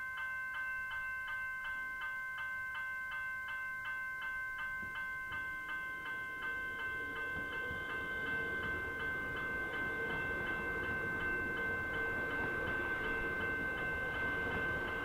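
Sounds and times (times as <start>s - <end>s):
level crossing warning bell ringing: 0.0s - 15.0s.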